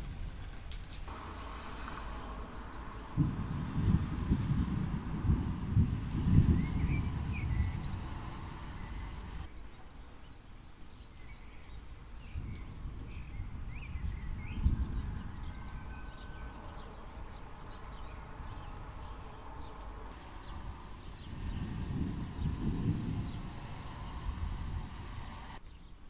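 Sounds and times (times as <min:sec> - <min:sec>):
thunder rumble: 0:00.0 - 0:09.5, 0:12.3 - 0:19.2, 0:20.0 - 0:25.6
birds chirping: 0:00.4 - 0:26.0.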